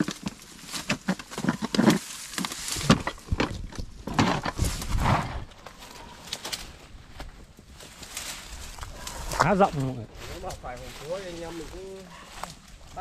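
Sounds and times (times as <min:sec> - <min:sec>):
dry grass rustling: 0:00.0 - 0:13.0
footsteps in vegetation: 0:00.0 - 0:13.0.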